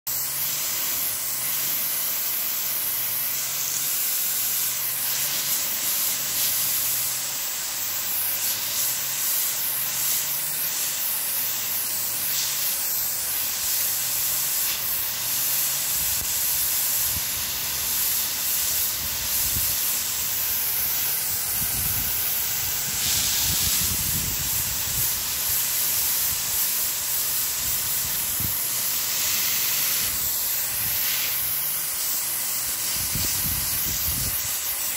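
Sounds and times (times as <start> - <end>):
hose nozzle spraying mist: 0.1 - 34.9.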